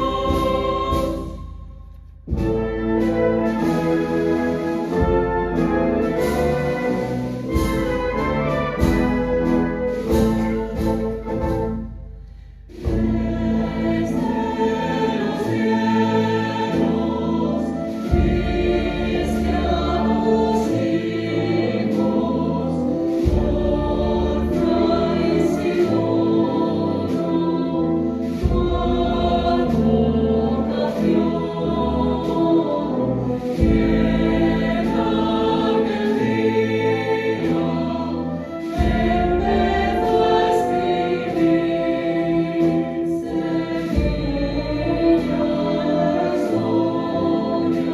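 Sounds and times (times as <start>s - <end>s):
choir singing a hymn: 0.0s - 11.9s, 12.7s - 47.9s
wind band playing: 2.2s - 12.2s, 12.8s - 47.9s.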